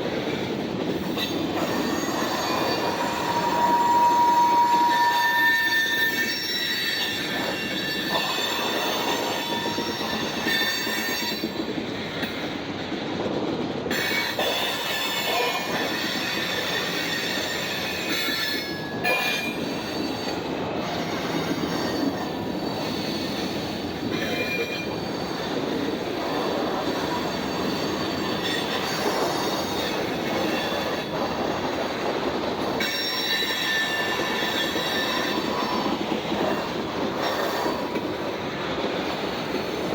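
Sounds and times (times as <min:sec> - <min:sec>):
freight train wheels rumbling: 0:00.0 - 0:39.9
steel wheels squealing: 0:01.0 - 0:11.7, 0:13.9 - 0:38.0.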